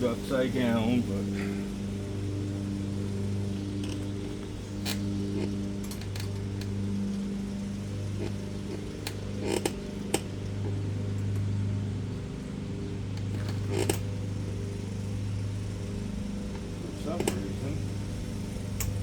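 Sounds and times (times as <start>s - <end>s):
small engine droning: 0.0s - 19.0s.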